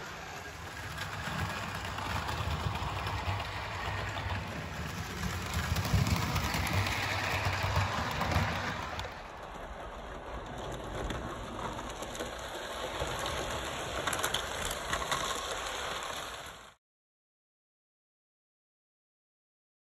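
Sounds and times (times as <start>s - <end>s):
model train motor whirring: 0.0s - 16.7s.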